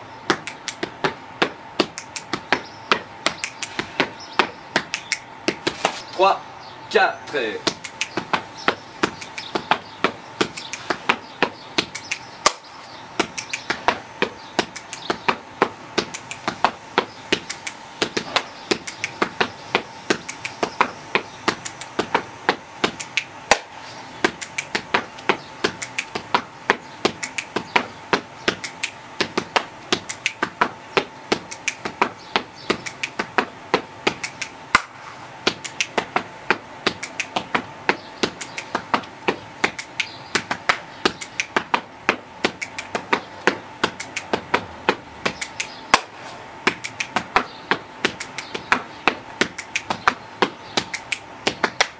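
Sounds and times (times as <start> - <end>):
hand claps and body strikes: 0.3 - 6.0, 7.6 - 51.9.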